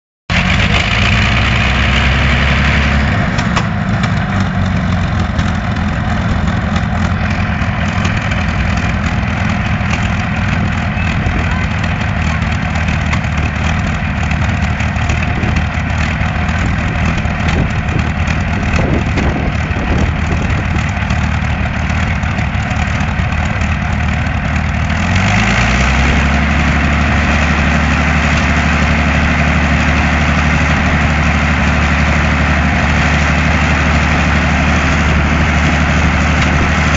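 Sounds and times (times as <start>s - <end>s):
aero engine running: 0.3s - 36.9s.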